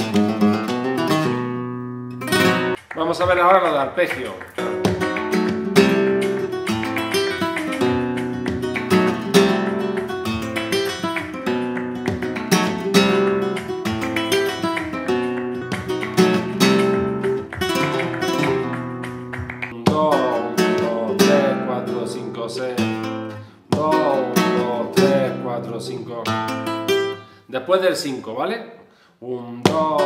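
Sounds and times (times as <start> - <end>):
flamenco guitar playing: 0.0 - 27.4, 29.7 - 30.0.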